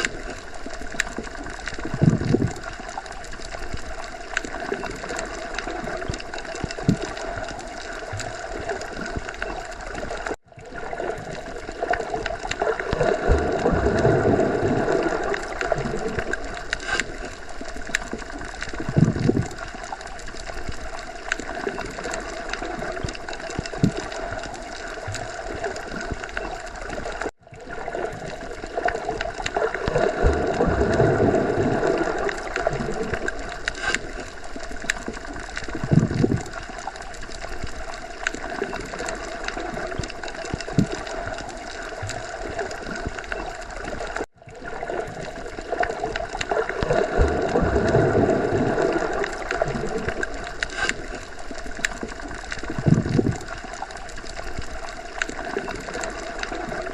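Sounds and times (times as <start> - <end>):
underwater watery wash: 0.0 - 56.9.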